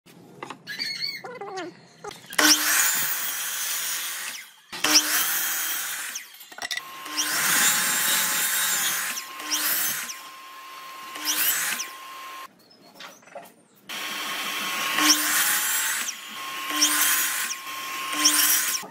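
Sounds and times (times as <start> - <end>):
electric miter saw cutting wood: 2.3 - 12.5, 13.9 - 18.9.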